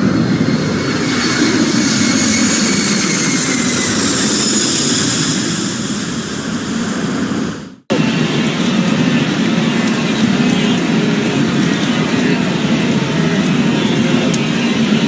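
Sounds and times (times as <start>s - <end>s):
aircraft engines roaring overhead: 0.0s - 15.0s
high engine whine: 0.0s - 15.0s.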